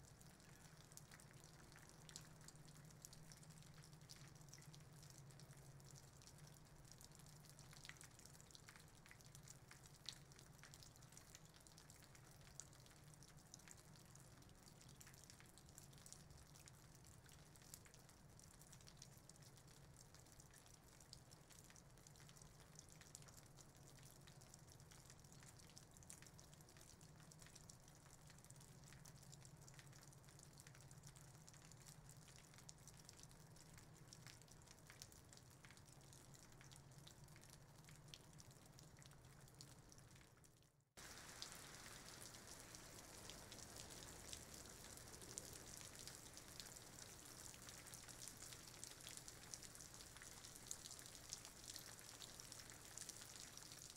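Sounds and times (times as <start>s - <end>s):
rain on leaves: 0.0s - 53.9s.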